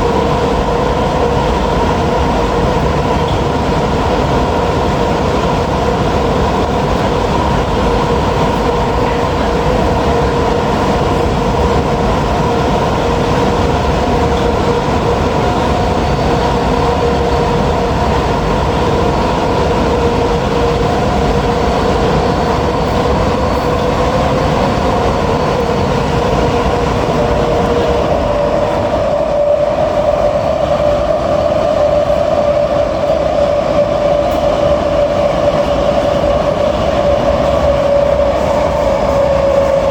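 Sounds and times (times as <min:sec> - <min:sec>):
train rumble: 0:00.0 - 0:39.9
two-tone train motor whine: 0:00.0 - 0:39.9.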